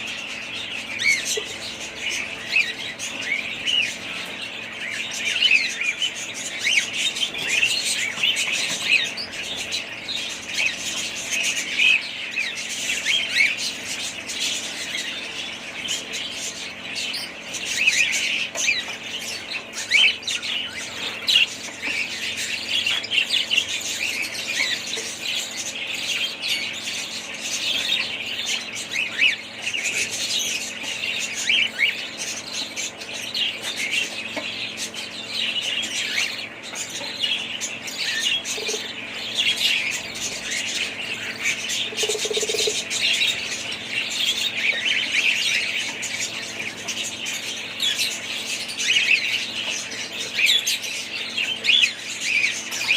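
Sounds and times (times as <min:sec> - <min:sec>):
budgerigars chirping and chattering: 0:00.0 - 0:52.9.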